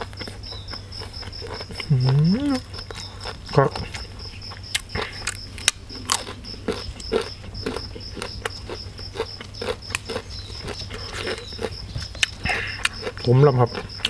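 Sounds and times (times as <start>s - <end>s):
chewing crisp raw vegetables: 0.0s - 14.0s
high-pitched insect chirp: 0.0s - 14.0s.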